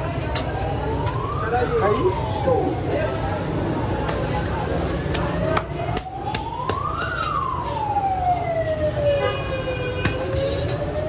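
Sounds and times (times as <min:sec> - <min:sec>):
low street noise: 0:00.0 - 0:11.0
siren wailing: 0:00.4 - 0:04.0, 0:04.8 - 0:11.0.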